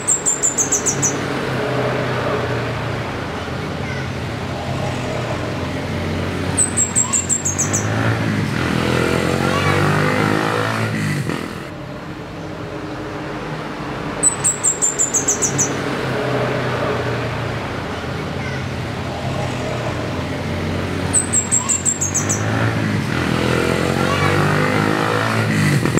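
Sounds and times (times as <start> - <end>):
vehicle engine humming past: 0.0 - 25.9.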